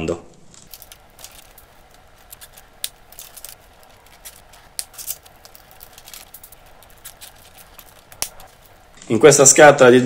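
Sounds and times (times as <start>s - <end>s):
wire insulation rustling on plastic: 0.4s - 9.5s.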